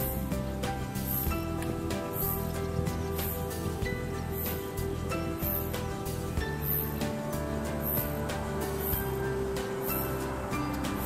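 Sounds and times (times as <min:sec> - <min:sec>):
background music with sustained notes: 0:00.0 - 0:11.0.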